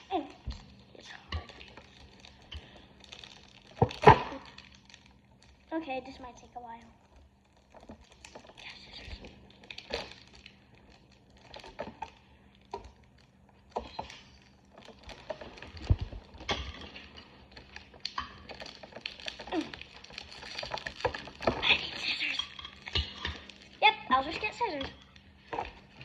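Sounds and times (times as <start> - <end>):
crinkling plastic wrapping: 0.0 - 26.0.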